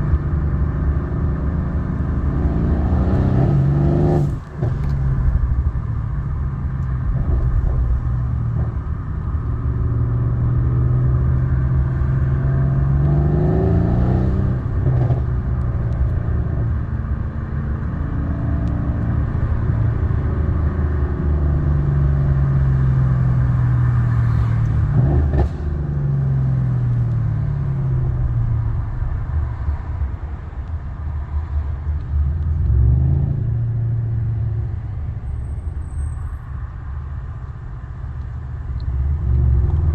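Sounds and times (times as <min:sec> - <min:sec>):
car engine rumbling and revving: 0:00.0 - 0:39.9.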